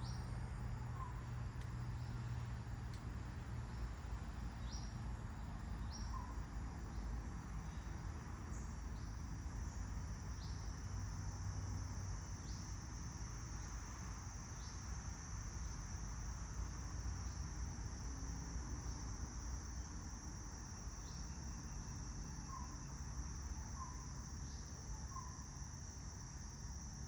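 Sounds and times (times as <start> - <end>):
high-pitched insect trill: 0.0 - 2.5, 3.2 - 27.0.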